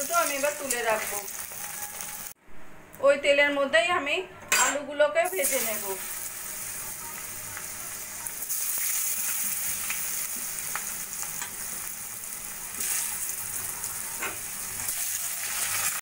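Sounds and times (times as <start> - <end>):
potatoes sizzling in hot oil: 0.0 - 2.4, 5.3 - 16.0.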